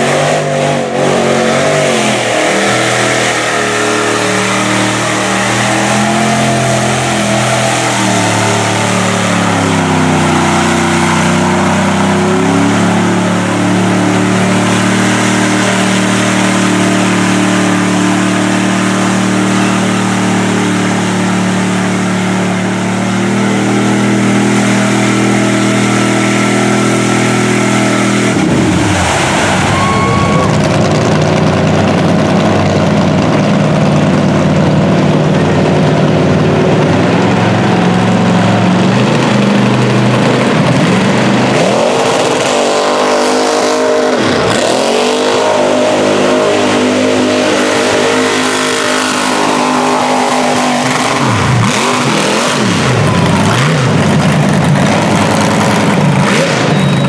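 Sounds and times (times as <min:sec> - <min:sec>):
rough truck engine: 0:00.0 - 0:57.0
rush of noise: 0:00.0 - 0:57.0
truck engine revving: 0:00.0 - 0:57.0.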